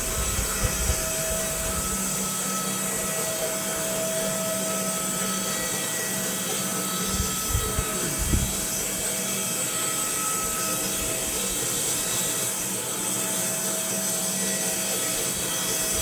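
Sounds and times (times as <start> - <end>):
bandsaw mill sawing a log: 0.0 - 16.0.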